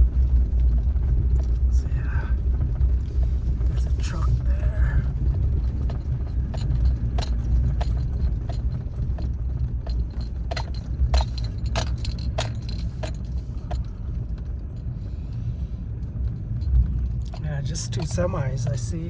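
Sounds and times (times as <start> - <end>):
light clicks and rattles: 0.0 - 19.0
truck engine rumble: 0.0 - 19.0.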